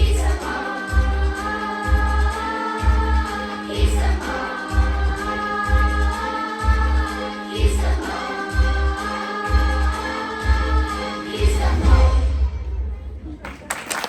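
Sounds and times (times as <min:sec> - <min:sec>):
group of voices singing: 0:00.0 - 0:12.6.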